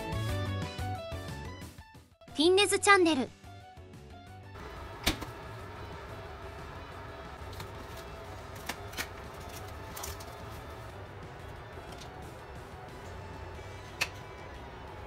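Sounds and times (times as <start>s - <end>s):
quiet background music: 2.3s - 15.0s.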